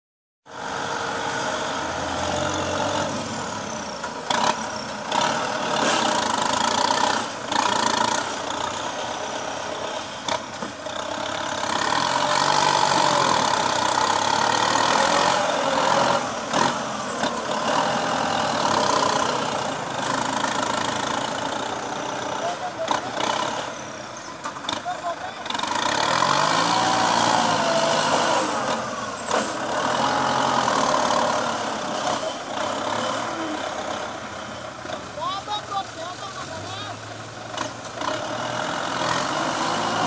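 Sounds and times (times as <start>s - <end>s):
tractor diesel engine running: 0.5s - 40.0s.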